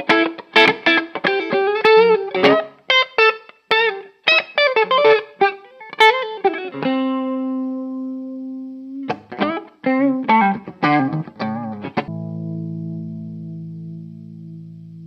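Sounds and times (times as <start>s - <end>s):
electric guitar with chorus effect: 0.0s - 15.0s.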